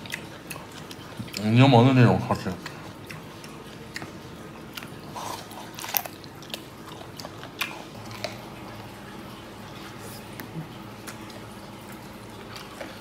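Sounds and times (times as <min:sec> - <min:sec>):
person chewing crunchy food: 0:00.0 - 0:01.7, 0:02.3 - 0:13.0.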